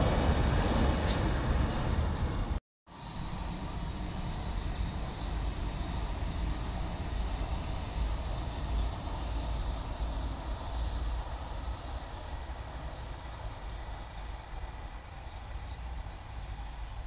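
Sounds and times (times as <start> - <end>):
bullet train passing at speed: 0.0 - 17.0.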